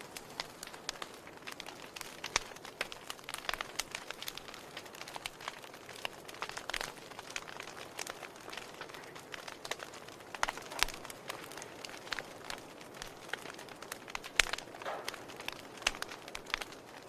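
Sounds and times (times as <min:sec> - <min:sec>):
logs crackling and popping: 0:00.0 - 0:17.0.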